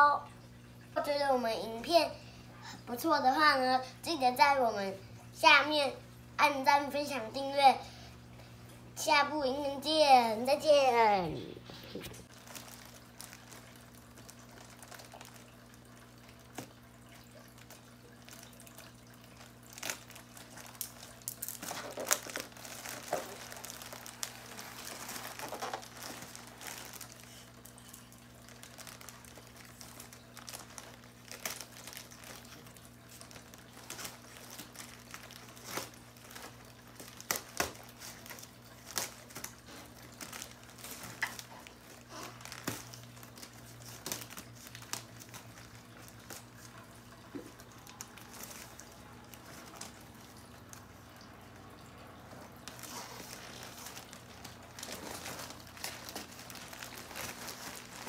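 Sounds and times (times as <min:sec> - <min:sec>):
plastic bag crinkling: 0:10.7 - 0:58.0.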